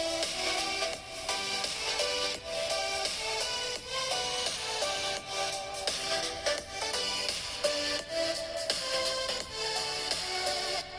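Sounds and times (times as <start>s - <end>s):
background music with held notes: 0.0s - 10.9s.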